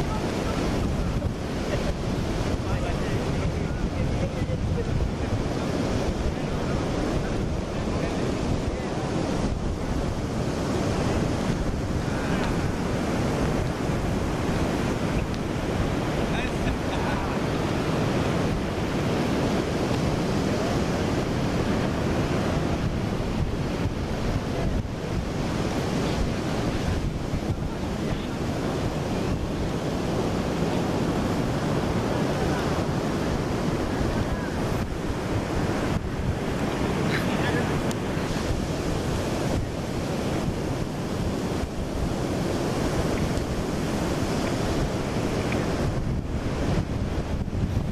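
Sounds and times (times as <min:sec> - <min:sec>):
sea surf rushing: 0:00.0 - 0:47.9
wind buffeting microphone: 0:00.0 - 0:47.9.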